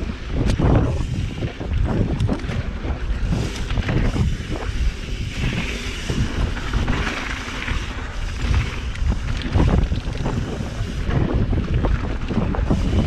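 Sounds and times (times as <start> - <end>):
bike knocking and rattling: 0.0 - 13.0
wind rushing over microphone: 0.0 - 13.0
tyres rolling over dirt: 1.4 - 13.0.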